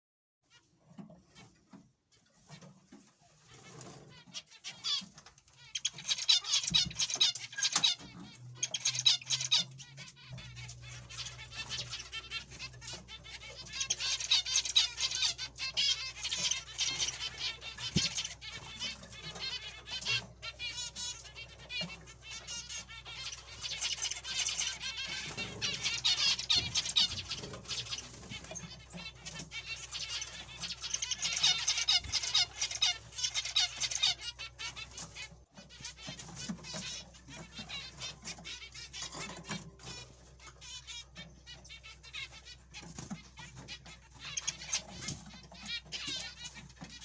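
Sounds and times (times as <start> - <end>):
finches chirping: 3.4 - 47.0.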